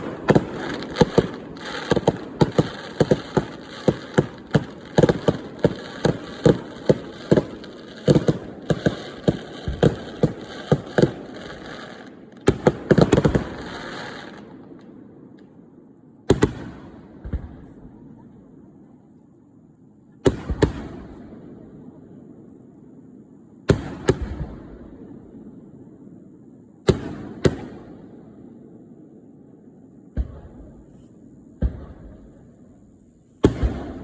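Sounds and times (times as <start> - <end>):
fireworks bangs: 0.0 - 15.4, 16.2 - 18.3, 20.2 - 21.8, 23.6 - 25.5, 26.8 - 28.6, 29.4 - 34.0
continuous fireworks hiss: 0.0 - 34.0.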